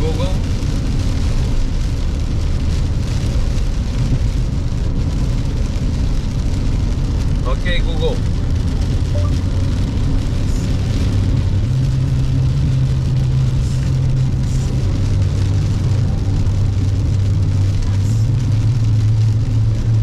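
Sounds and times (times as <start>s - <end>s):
car engine and road drone: 0.0s - 20.0s
rain: 0.0s - 20.0s.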